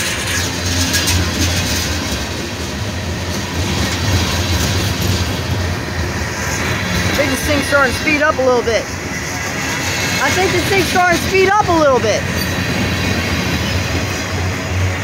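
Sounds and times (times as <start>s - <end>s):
steel wheels running on rail: 0.0s - 15.0s.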